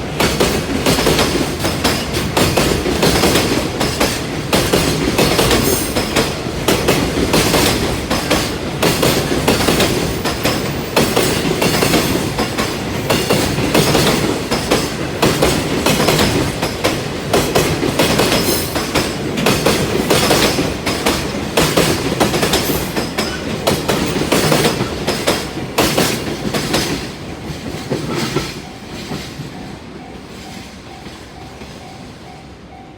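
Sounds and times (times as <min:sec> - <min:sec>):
train wheels clicking over rail joints: 0:00.0 - 0:31.9
level-crossing warning bell: 0:00.0 - 0:32.9.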